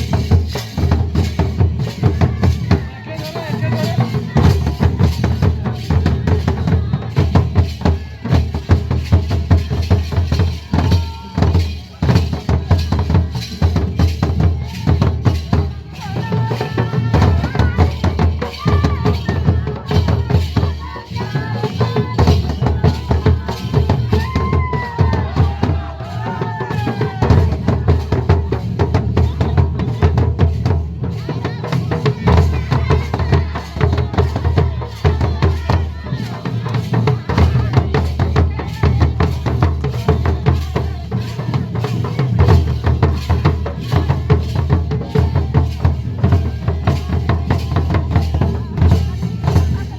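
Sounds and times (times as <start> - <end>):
drums beating fast rhythm: 0.0 - 49.9.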